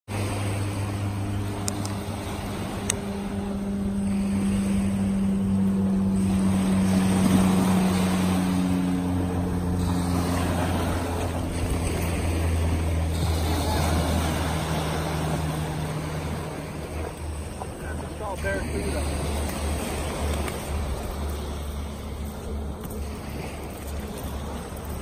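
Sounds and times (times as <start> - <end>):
motorboat engine drone: 0.0 - 25.0
small waves washing onto beach: 0.1 - 25.0.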